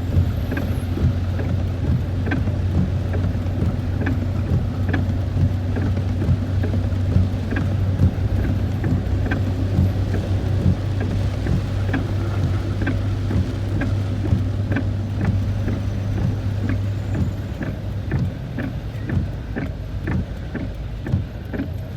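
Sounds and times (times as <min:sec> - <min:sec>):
car engine and road drone: 0:00.0 - 0:21.9
raindrops hitting car: 0:00.0 - 0:21.9.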